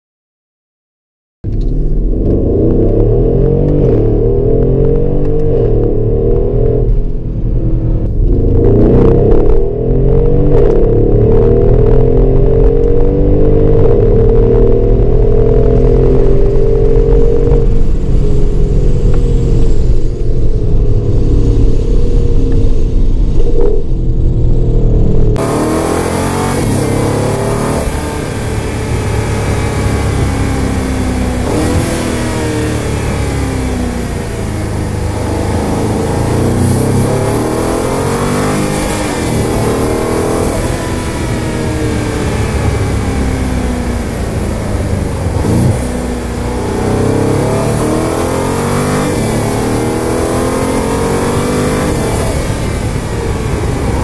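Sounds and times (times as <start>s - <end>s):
car engine accelerating: 1.5s - 54.0s.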